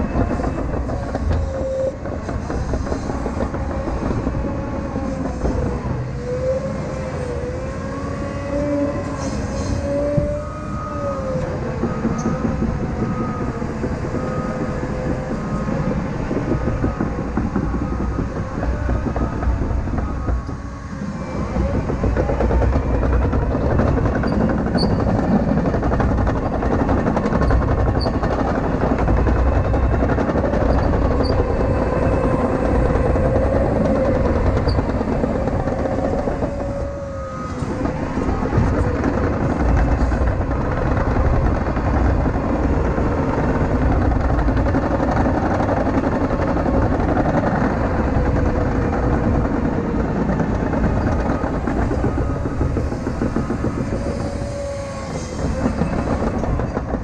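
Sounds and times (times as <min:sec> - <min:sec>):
track loader diesel engine under load: 0:00.0 - 0:57.0.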